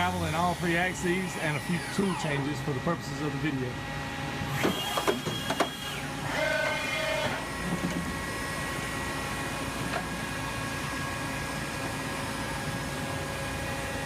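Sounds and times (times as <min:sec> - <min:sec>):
high machine whine: 0:00.0 - 0:14.0
machine humming: 0:00.0 - 0:14.0.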